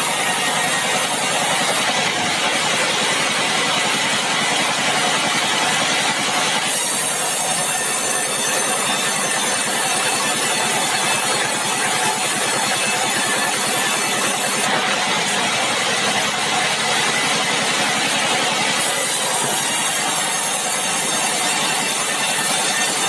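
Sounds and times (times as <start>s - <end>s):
sawmill engine pulsing: 0.0s - 23.0s.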